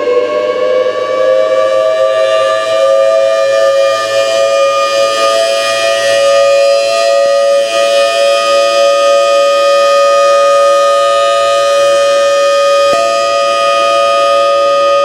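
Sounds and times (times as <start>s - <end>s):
two-note warning siren wail: 0.0s - 15.0s.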